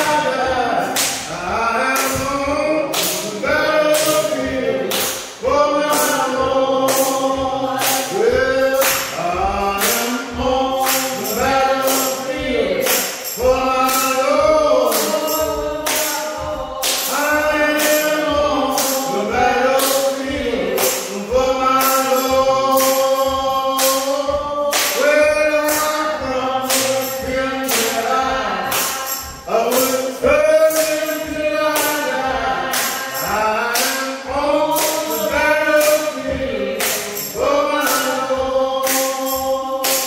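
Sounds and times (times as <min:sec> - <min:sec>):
sharp bright percussion beat: 0:00.0 - 0:40.0
singing voices gliding between notes: 0:00.0 - 0:40.0.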